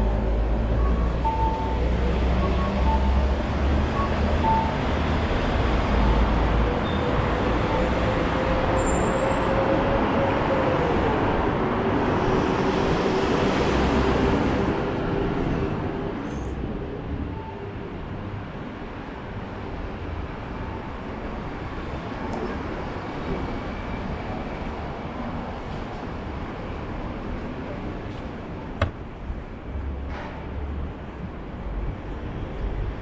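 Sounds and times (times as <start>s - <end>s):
passing vehicles rumbling: 0.0s - 33.0s.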